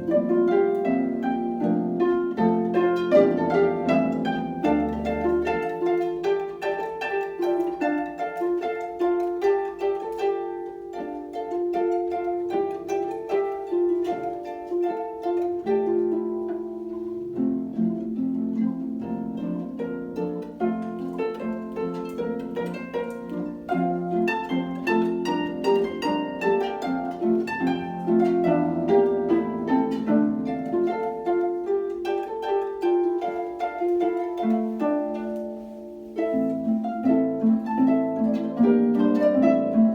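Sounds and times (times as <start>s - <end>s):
harps playing a duet: 0.0s - 39.9s.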